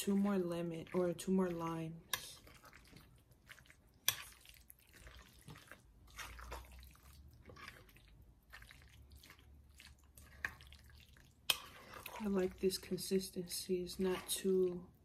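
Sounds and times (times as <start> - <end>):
spoon mashing wet food: 0.0 - 15.0.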